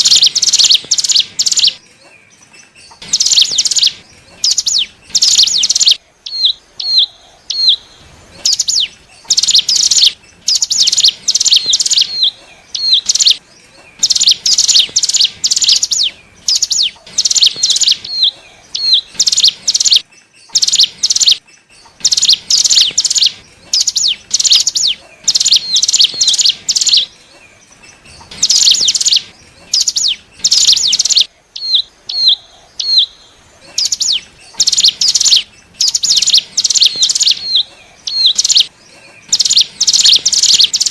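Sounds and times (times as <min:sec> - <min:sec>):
bird chirping in rapid runs: 0:00.0 - 0:40.9.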